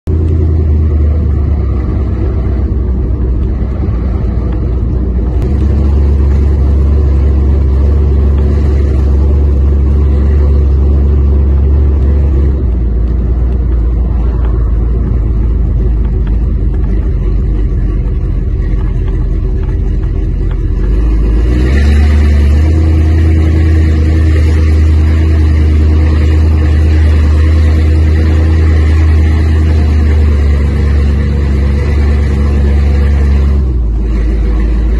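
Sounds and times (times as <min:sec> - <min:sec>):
car engine rumble: 0:00.0 - 0:34.9.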